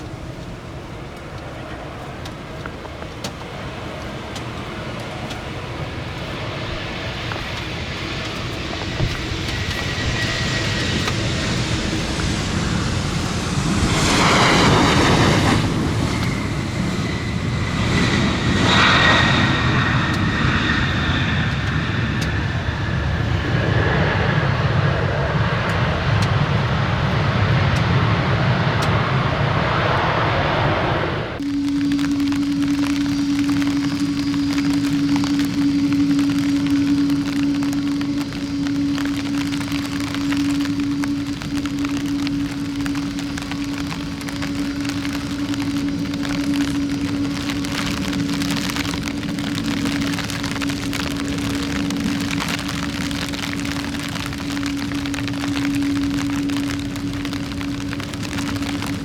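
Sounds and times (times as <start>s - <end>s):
airliner engines roaring: 0.0s - 59.0s
high engine whine: 0.0s - 59.0s.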